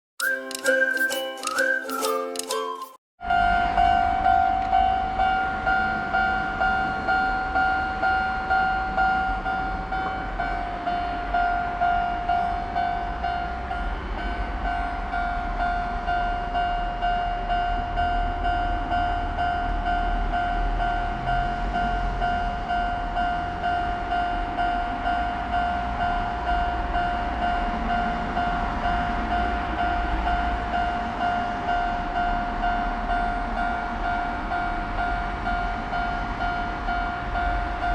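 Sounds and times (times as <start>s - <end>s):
train rumbling on rails: 3.3s - 37.9s.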